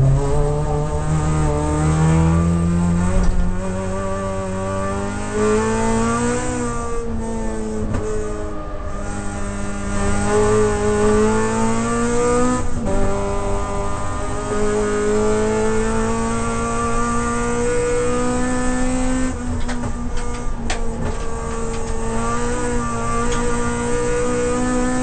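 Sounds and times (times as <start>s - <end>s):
car engine pulling under load: 0.0s - 25.0s.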